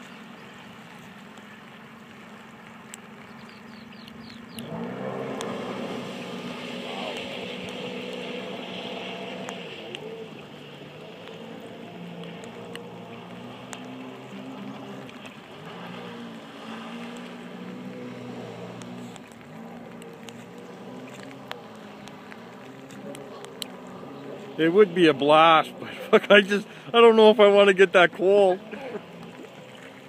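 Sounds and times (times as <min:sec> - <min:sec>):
watercraft engine running: 0:00.0 - 0:30.0.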